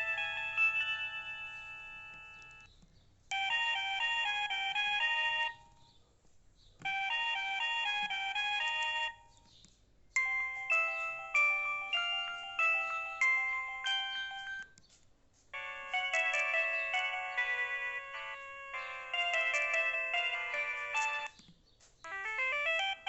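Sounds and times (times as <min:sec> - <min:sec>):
chiming ringtone melody: 0:00.0 - 0:02.7, 0:03.3 - 0:05.8, 0:06.9 - 0:09.4, 0:10.2 - 0:14.8, 0:15.6 - 0:21.4, 0:22.1 - 0:23.0
fast electronic ringtone melody: 0:00.0 - 0:02.7, 0:03.3 - 0:05.7, 0:06.9 - 0:09.3, 0:10.2 - 0:14.7, 0:15.6 - 0:21.4, 0:22.1 - 0:23.0.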